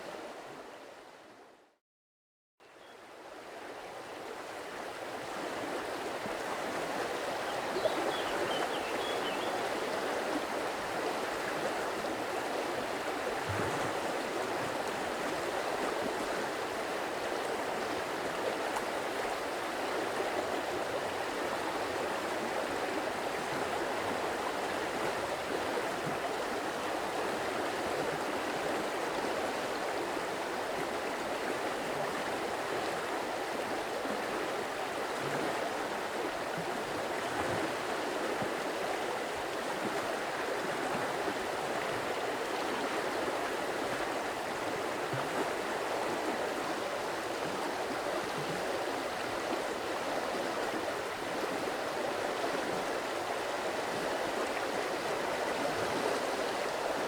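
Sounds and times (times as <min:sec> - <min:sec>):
stream water flowing and splashing: 0:03.0 - 0:57.0.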